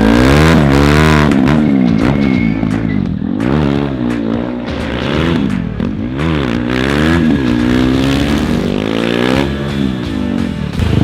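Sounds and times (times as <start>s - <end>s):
motorcycle engine revving hard: 0.0s - 11.0s.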